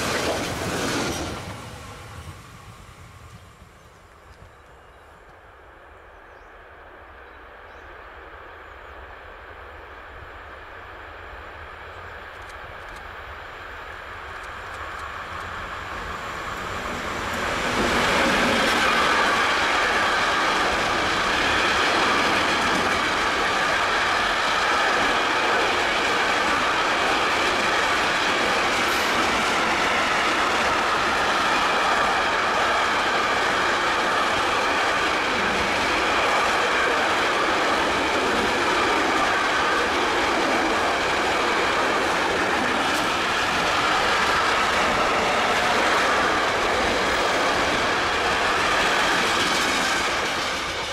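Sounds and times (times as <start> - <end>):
freight train passing: 0.0 - 50.9
train wheels running on rails: 0.0 - 50.9.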